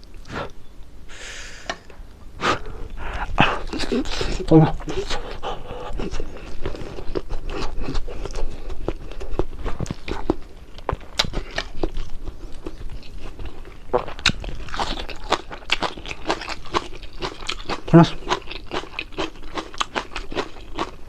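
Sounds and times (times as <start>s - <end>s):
crunching and chewing fried fish: 3.5s - 21.0s.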